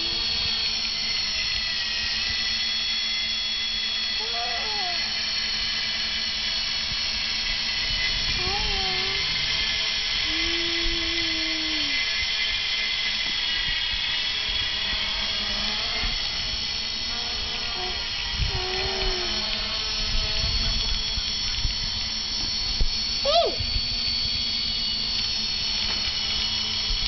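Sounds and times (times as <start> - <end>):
quadcopter motors whine: 0.0 - 27.0.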